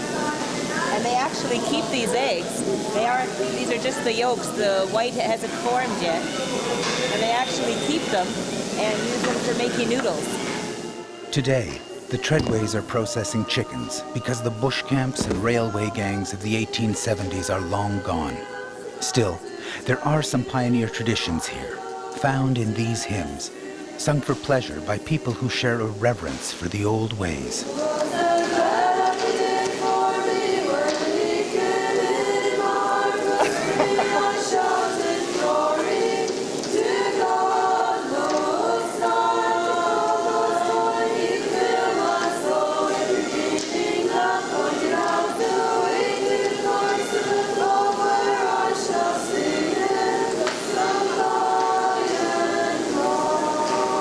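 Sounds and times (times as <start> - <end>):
women singing a hymn: 0.0 - 54.0.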